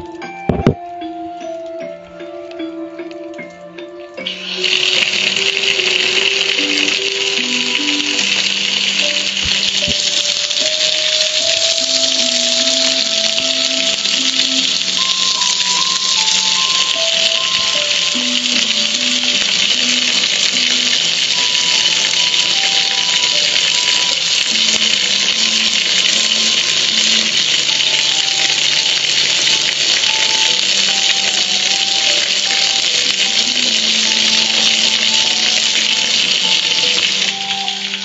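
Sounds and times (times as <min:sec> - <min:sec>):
quiet simple tune: 0:00.0 - 0:38.0
water splashing over grill: 0:04.2 - 0:38.0.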